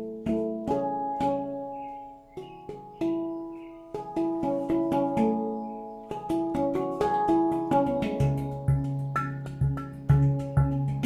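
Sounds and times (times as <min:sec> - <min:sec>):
handpan notes ringing: 0:00.0 - 0:11.0.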